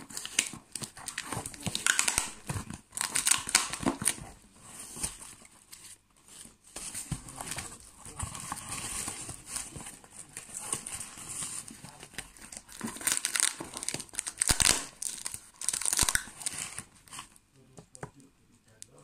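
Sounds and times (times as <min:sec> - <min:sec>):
packing material crinkling: 0:00.0 - 0:17.4.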